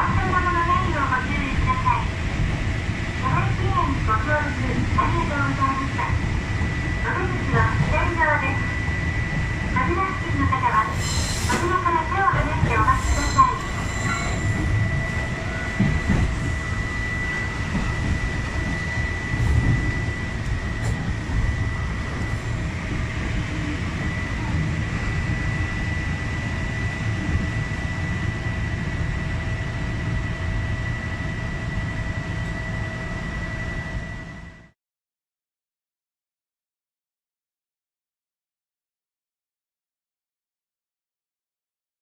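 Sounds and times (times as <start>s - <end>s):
train wheels rumbling on track: 0.0s - 34.4s.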